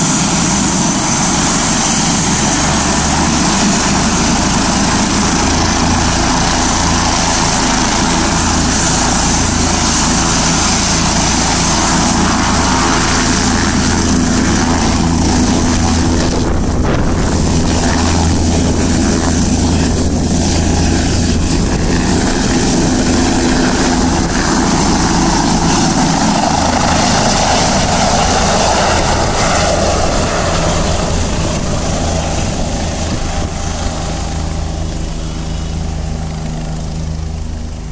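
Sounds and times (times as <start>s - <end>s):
helicopter rotor and turbine: 0.0s - 37.9s.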